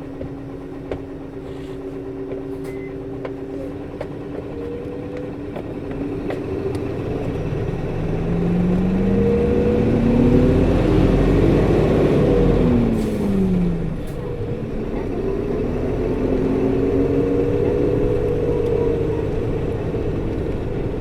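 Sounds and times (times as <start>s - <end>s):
bus engine accelerating: 0.0s - 21.0s.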